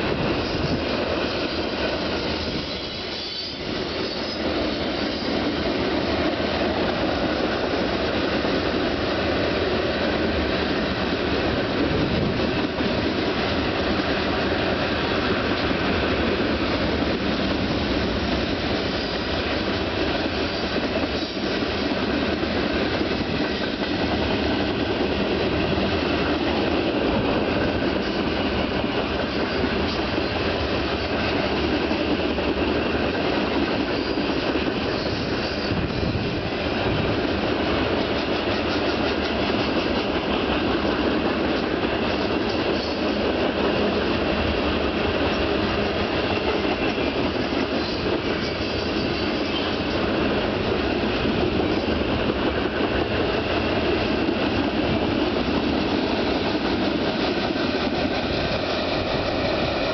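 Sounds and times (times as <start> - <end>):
freight train rolling past: 0.0 - 59.9
steel wheels on rails: 0.0 - 59.9.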